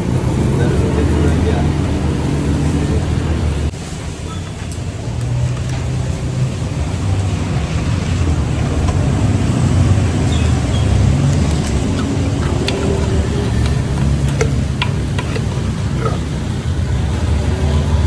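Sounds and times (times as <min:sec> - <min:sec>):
road traffic rumble: 0:00.0 - 0:18.0
vehicle engines running: 0:00.0 - 0:18.0.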